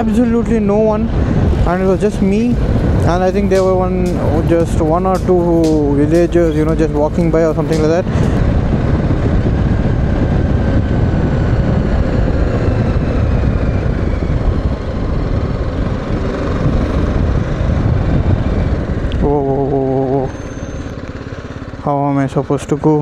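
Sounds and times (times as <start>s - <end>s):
motorcycle engine running: 0.0s - 23.0s
wind rumble on microphone: 0.0s - 23.0s.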